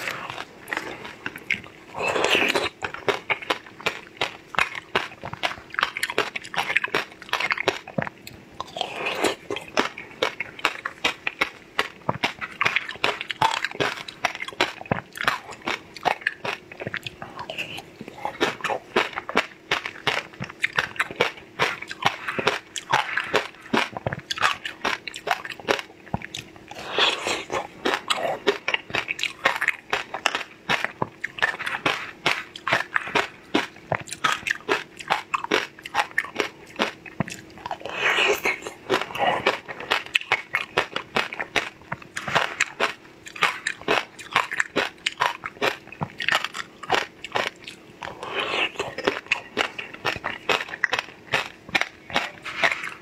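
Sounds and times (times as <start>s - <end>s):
chewing crunchy food: 0.0s - 53.0s.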